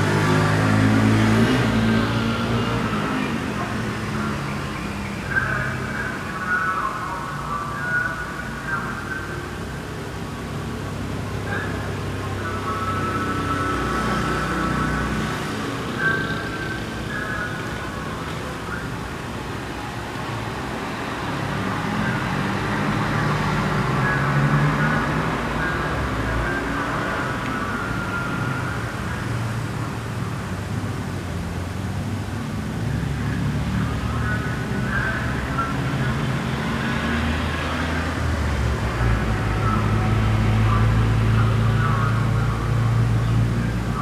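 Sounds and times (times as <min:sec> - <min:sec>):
road traffic: 0:00.0 - 0:44.0
vehicle engine drone: 0:00.0 - 0:44.0.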